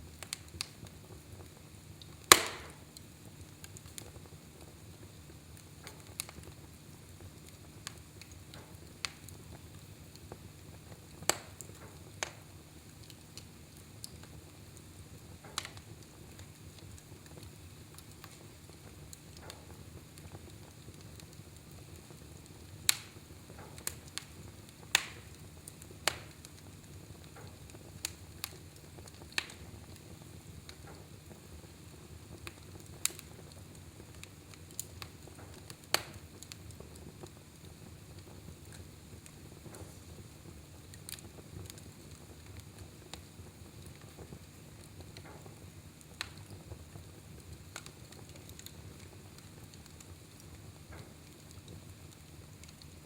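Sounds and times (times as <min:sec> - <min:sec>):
fire crackling and popping: 0:00.0 - 0:53.0
low hiss of fire: 0:00.0 - 0:53.0.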